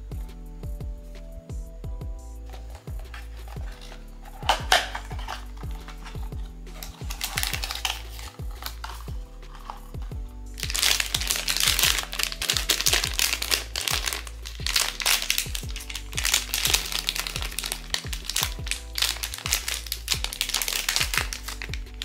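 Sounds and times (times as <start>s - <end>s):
background music with beat: 0.0s - 22.0s
plastic packaging crinkling: 2.5s - 9.9s, 10.6s - 22.0s.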